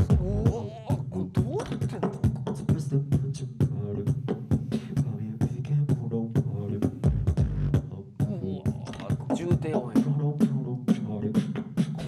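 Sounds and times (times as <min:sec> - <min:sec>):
person beatboxing: 0:00.0 - 0:12.0.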